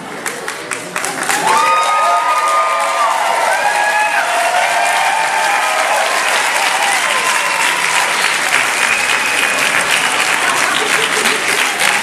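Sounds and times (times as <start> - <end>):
audience applauding: 0.2 - 12.0.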